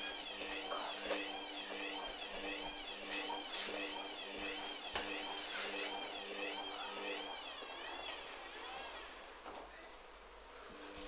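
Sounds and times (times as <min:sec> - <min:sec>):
washing machine spinning: 0:00.0 - 0:09.4.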